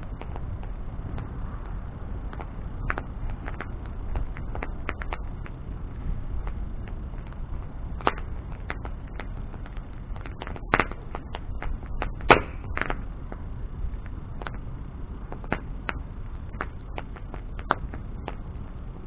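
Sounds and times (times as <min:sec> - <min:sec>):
bonfire pops and snaps: 0:00.0 - 0:19.0
low fire rumble: 0:00.0 - 0:19.0.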